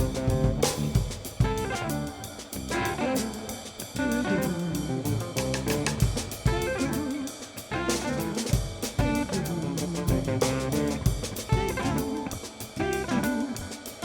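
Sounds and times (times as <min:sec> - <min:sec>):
bass guitar: 0:00.0 - 0:14.0
electric guitar melody: 0:00.0 - 0:14.0.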